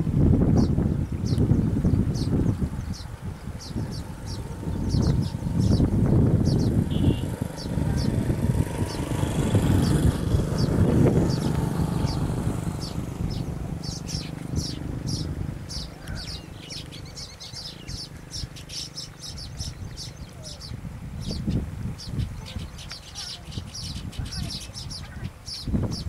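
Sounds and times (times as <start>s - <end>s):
weaver birds chirping: 0.5s - 26.0s.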